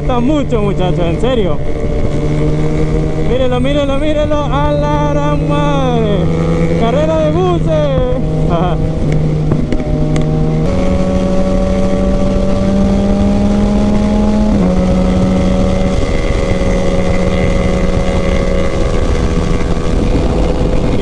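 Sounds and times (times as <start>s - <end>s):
motorcycle engine running: 0.0s - 21.0s
wind rush on microphone: 0.0s - 21.0s.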